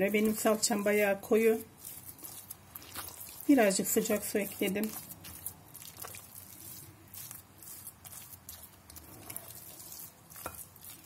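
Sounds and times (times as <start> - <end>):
wet squelching of paste: 0.0 - 11.0
spatula scraping glass bowl: 0.3 - 11.0.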